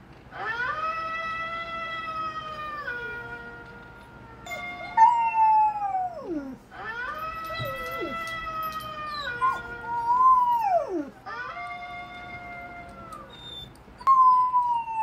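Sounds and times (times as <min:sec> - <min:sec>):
dog howling: 0:00.4 - 0:15.0.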